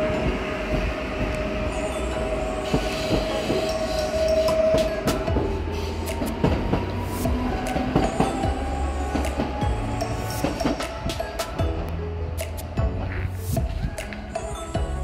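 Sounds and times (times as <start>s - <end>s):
electric train whine: 0.0s - 13.1s
train wheels clicking over rail joints: 0.0s - 13.8s.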